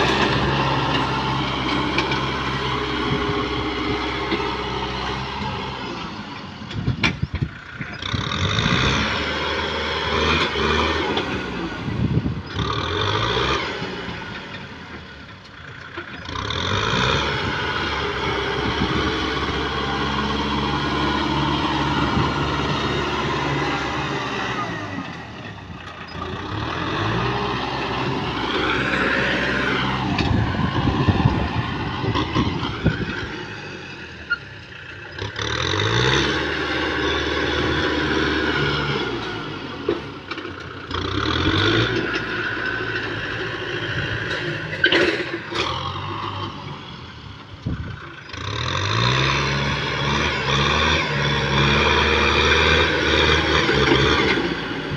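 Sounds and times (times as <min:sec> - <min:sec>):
tractor diesel engine revving: 0:00.0 - 0:54.9.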